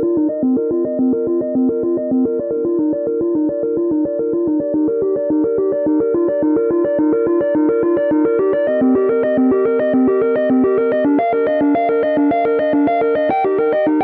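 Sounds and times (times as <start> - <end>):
synthesized arpeggio ringtone: 0.0 - 14.0.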